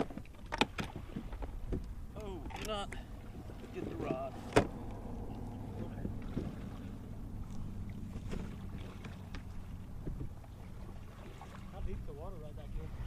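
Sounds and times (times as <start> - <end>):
kayak rumbling on water: 0.0 - 13.0.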